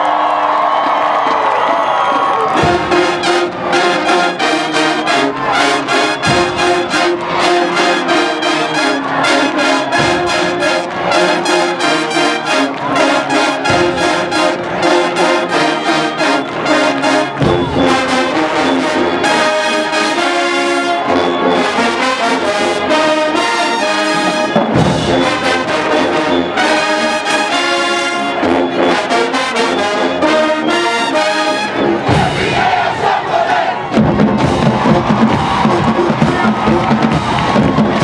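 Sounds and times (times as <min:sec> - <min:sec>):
marching band playing: 0:00.2 - 0:38.0.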